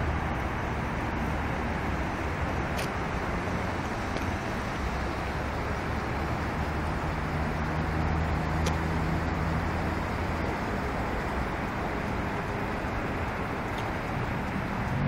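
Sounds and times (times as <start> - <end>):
outdoor vehicle hiss: 0.0 - 15.0.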